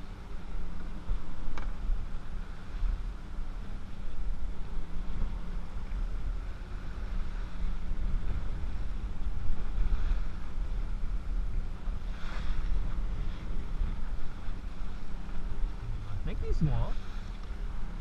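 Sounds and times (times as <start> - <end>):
outboard motors running: 0.0 - 18.0
water rushing past hull: 0.0 - 18.0
wind buffeting microphone: 0.0 - 18.0.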